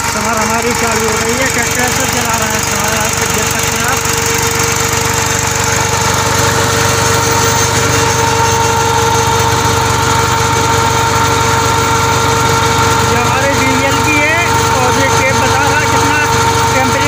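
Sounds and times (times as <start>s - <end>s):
steady whine: 0.0s - 17.0s
tractor diesel engine running: 0.0s - 17.0s.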